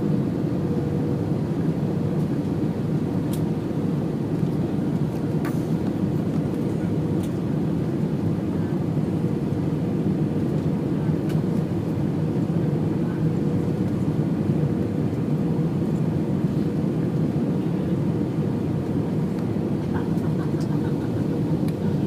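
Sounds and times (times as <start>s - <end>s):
jet airliner cabin rumble: 0.0s - 22.0s.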